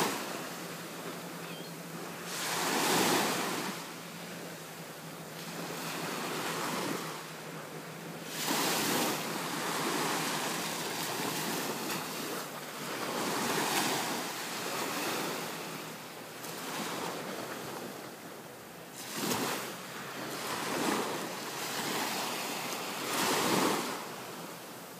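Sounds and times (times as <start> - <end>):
ocean surf on beach: 0.0 - 24.9.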